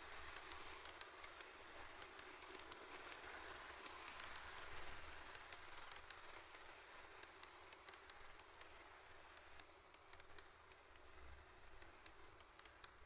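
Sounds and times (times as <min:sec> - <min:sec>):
model train rolling on track: 0:00.0 - 0:13.0.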